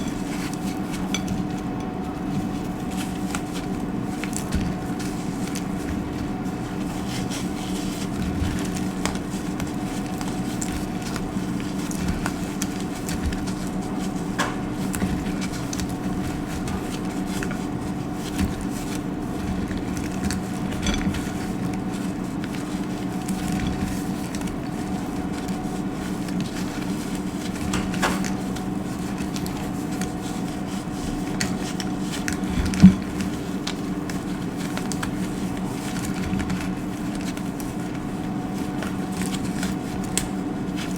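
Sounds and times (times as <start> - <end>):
dry soap crunching: 0.0 - 40.9.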